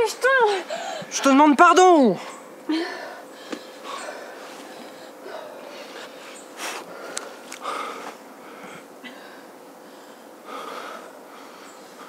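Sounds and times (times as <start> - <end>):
man breathing hard: 2.2 - 12.0.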